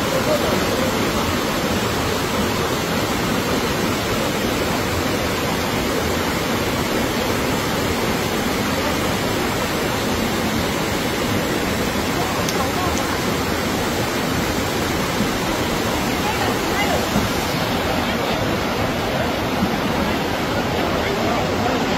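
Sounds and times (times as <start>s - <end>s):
floodwater rushing: 0.0s - 21.9s
heavy rain falling: 0.0s - 21.9s.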